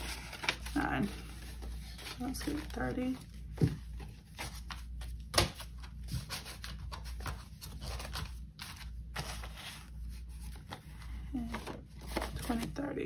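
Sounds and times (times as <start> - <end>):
paper banknotes rustling: 0.0 - 13.0.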